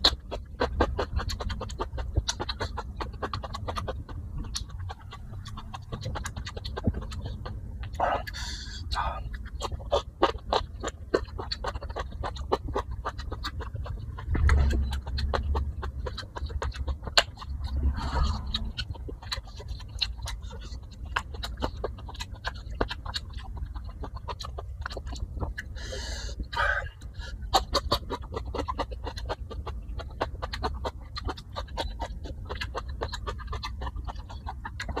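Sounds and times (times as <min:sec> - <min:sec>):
person chewing and crunching food: 0:00.0 - 0:35.0.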